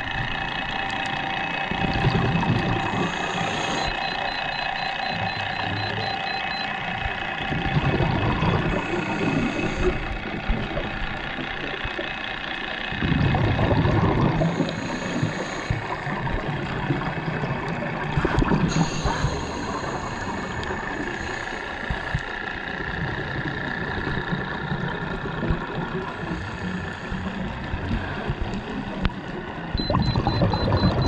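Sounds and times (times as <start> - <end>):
steady hum: 0.0 - 31.0
underwater regulator bubbles: 0.8 - 12.2, 12.9 - 31.0.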